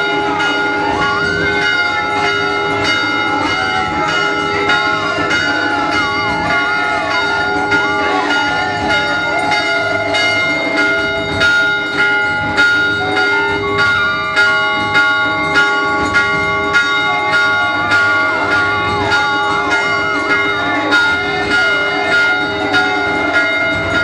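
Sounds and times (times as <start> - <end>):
temple bells ringing: 0.0 - 24.0
temple music with held notes: 0.0 - 24.0.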